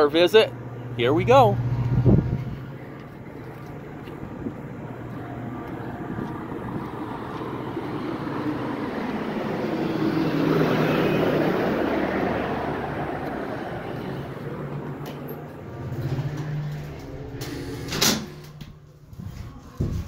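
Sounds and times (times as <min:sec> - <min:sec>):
vehicle driving past: 0:00.5 - 0:19.0.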